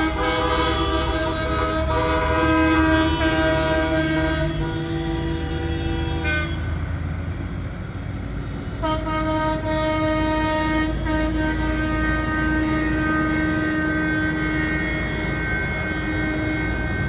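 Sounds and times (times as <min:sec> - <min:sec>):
vehicle horns blasting: 0:00.0 - 0:06.8, 0:08.8 - 0:17.0
traffic rumble: 0:00.0 - 0:17.0.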